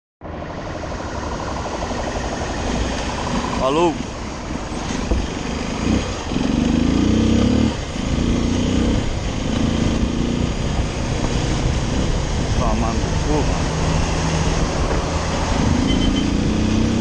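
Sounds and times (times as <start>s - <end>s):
steady wind noise: 0.2s - 17.0s
motorcycle engine running: 0.3s - 17.0s.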